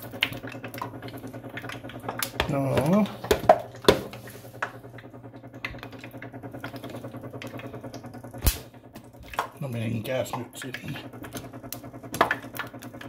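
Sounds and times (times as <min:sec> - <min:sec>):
low fluttering hum: 0:00.0 - 0:13.0.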